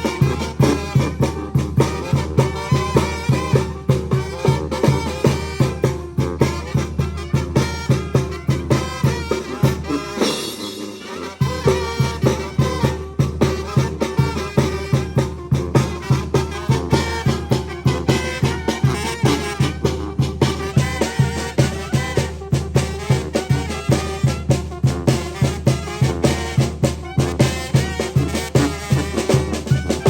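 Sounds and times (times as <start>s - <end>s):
bass and drum beat: 0.0s - 30.0s
brass band playing lively tune: 0.0s - 30.0s.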